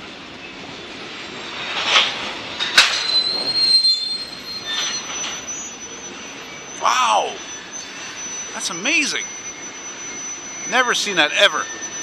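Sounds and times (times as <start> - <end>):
freight train rolling past: 0.0 - 12.0
steel wheels squealing on rails: 0.0 - 12.0.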